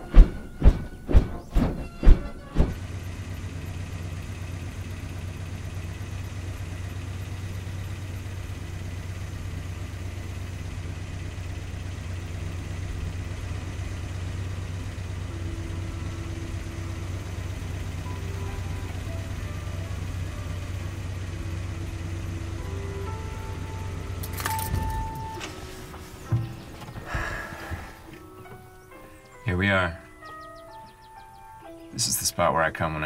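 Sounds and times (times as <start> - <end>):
pickup engine idling: 0.0 - 33.0.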